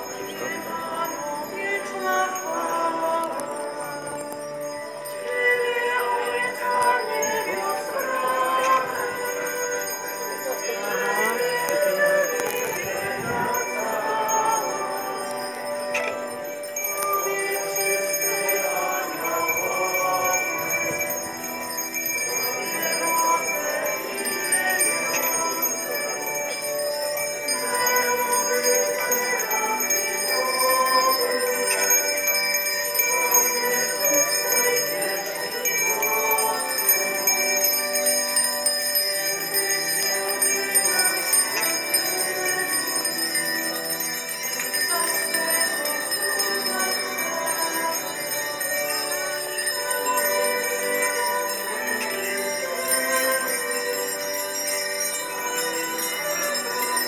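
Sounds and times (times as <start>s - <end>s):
bells ringing: 0.0s - 57.0s
hymn-like melody: 0.0s - 57.0s.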